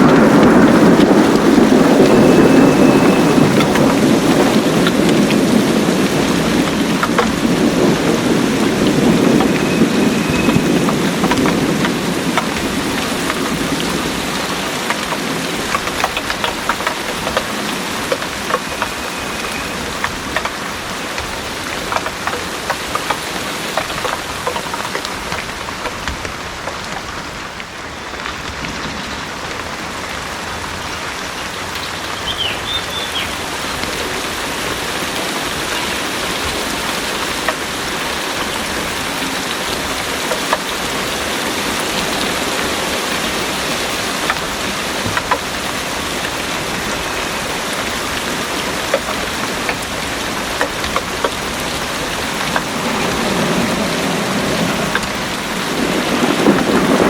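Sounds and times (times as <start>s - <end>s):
thunder rolling: 0.0s - 26.4s, 33.4s - 57.0s
heavy rain pattering: 0.0s - 57.0s.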